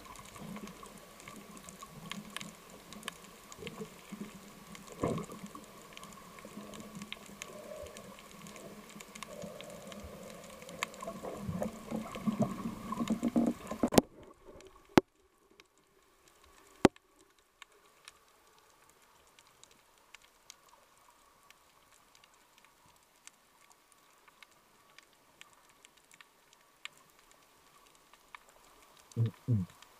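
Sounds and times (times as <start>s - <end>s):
crackle of small clicks: 0.0s - 29.9s
underwater water movement: 0.0s - 29.9s.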